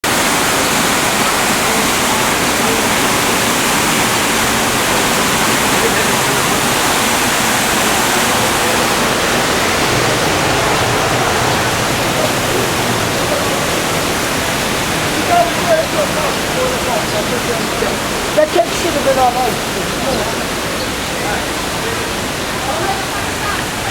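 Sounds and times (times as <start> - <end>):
water rushing down waterfall: 0.0 - 23.9.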